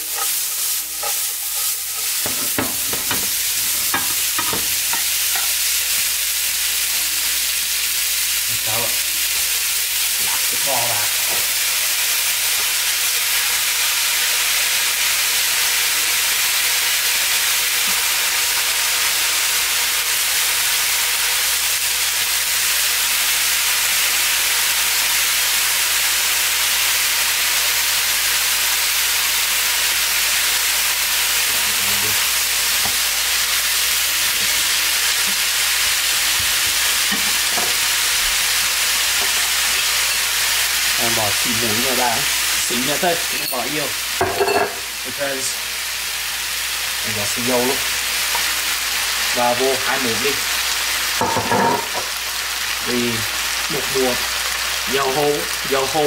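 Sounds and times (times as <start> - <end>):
beef sizzling in hot oil: 0.0 - 56.0.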